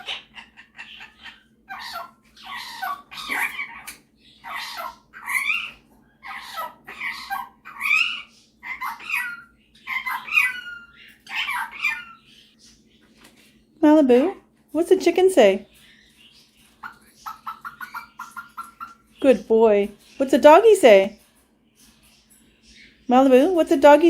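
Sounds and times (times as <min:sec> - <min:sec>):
parrot calling and chattering: 0:00.0 - 0:12.9, 0:14.1 - 0:21.2.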